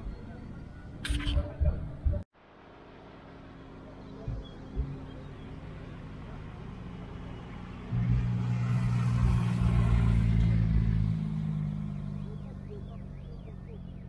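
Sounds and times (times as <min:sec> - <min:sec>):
car engine running at low revs: 0:02.0 - 0:14.0.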